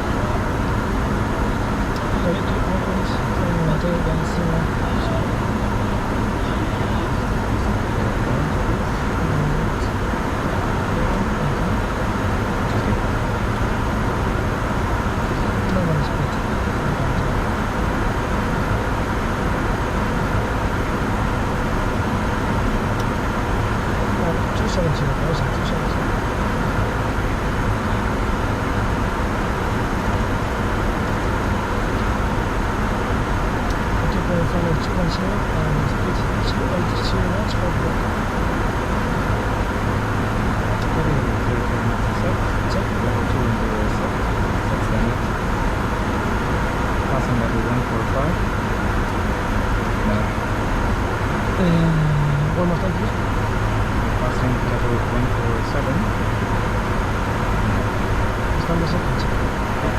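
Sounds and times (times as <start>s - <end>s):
airflow rush in cockpit: 0.0s - 59.9s
turbofan engine noise: 0.0s - 59.9s.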